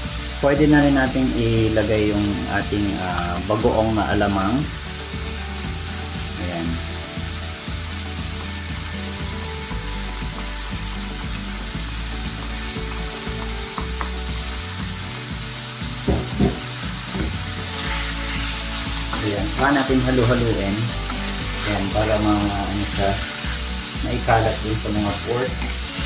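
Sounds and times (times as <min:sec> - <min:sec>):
pork sizzling in hot oil: 0:00.0 - 0:26.0.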